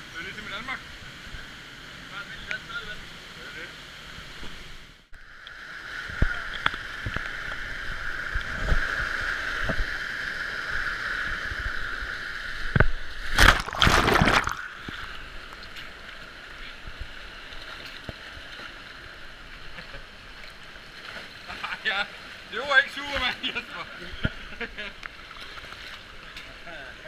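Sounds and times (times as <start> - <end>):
water rushing: 0.1 - 27.0.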